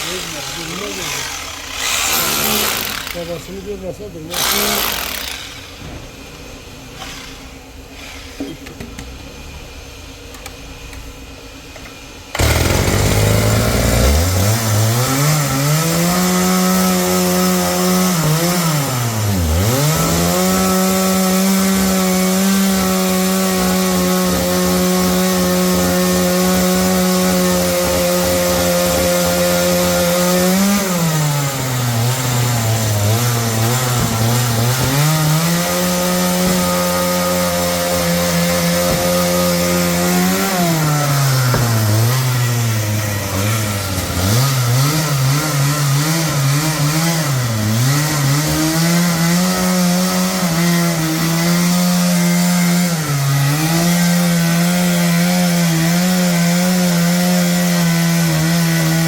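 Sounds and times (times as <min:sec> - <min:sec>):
sawmill saw running: 0:00.0 - 0:08.6, 0:12.3 - 0:59.0.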